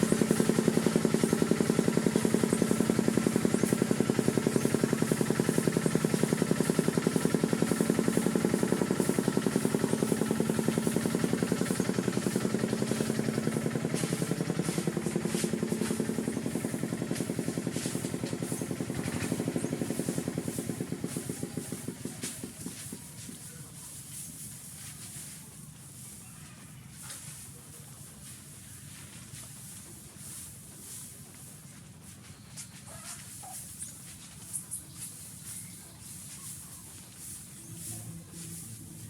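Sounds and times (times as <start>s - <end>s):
diesel engine chugging: 0.0s - 39.0s.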